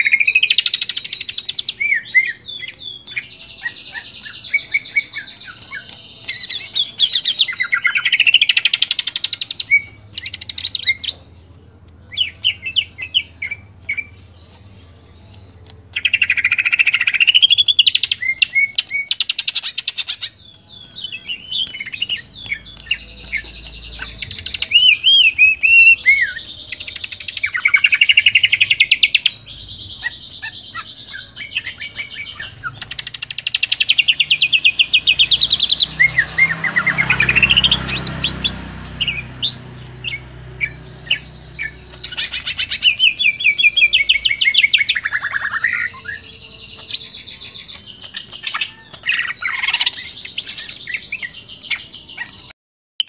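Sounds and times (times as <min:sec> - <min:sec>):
bird singing trills and whistles: 0:00.0 - 0:11.3, 0:12.0 - 0:52.5.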